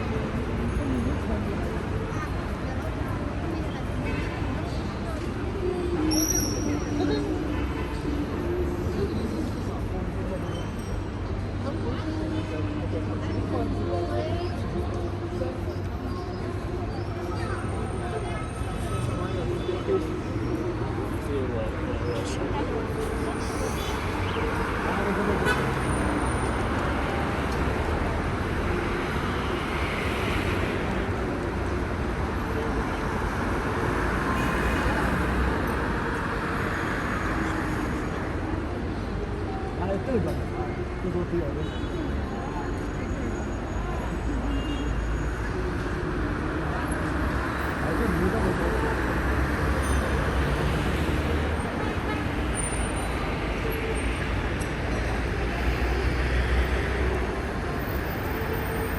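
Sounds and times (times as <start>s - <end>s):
crowd chatter: 0.0s - 58.9s.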